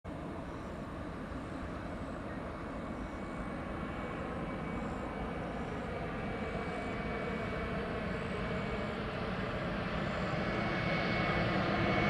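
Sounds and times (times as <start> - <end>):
distant jet airliner rumble: 0.1 - 12.0.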